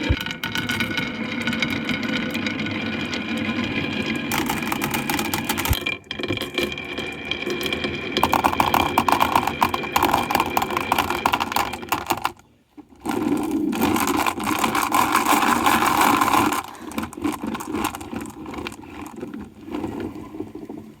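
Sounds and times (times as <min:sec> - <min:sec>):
marbles rolling on wooden tracks: 0:00.0 - 0:21.0.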